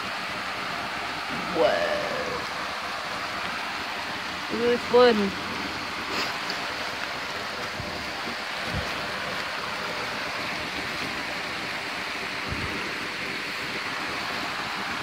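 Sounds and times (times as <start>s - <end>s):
flooded creek rushing: 0.0s - 15.0s
rain on an umbrella: 0.0s - 15.0s.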